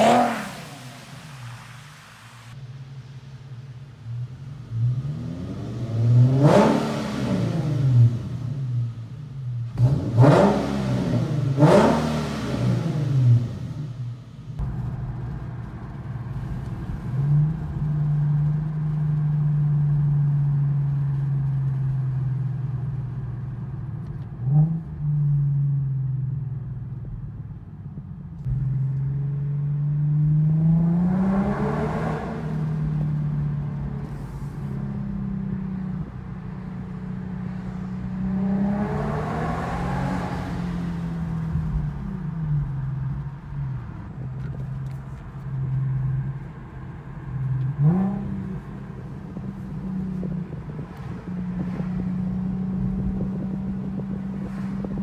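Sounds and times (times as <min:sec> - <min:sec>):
car exhaust drone: 0:00.0 - 0:55.0.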